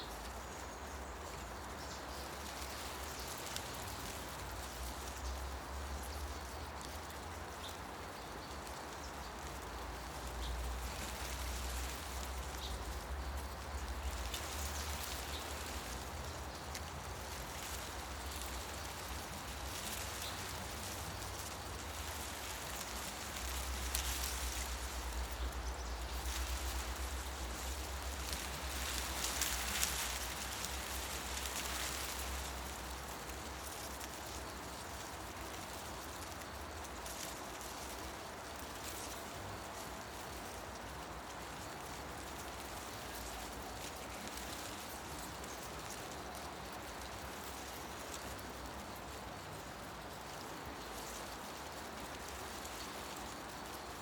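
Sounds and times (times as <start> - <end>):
wind rustling leaves: 0.0 - 54.0.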